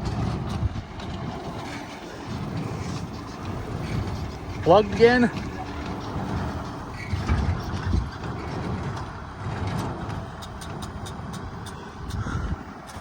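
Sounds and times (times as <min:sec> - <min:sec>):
tractor engine rumble: 0:00.0 - 0:13.0.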